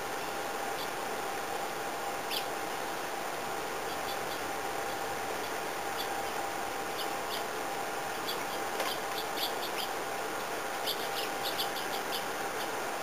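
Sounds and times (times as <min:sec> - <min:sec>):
songbirds chirping: 0:00.0 - 0:13.0
steady hiss: 0:00.0 - 0:13.0.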